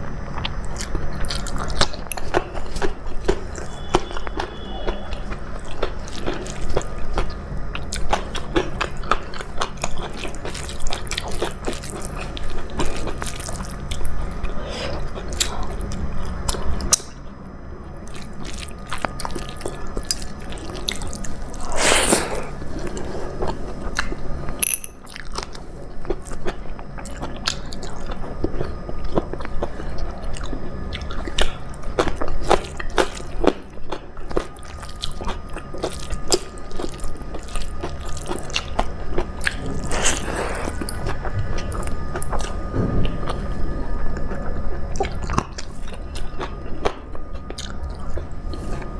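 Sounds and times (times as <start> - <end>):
person chewing food: 0.3 - 17.1, 18.0 - 48.9.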